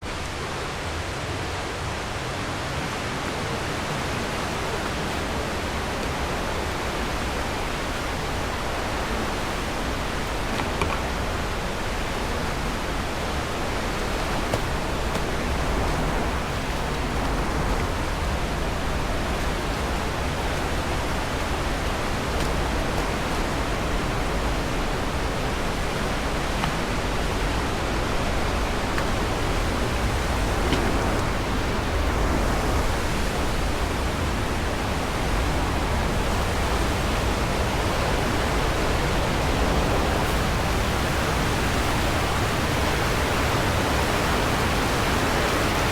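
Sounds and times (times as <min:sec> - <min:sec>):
waterfall rushing: 0:00.1 - 0:45.9.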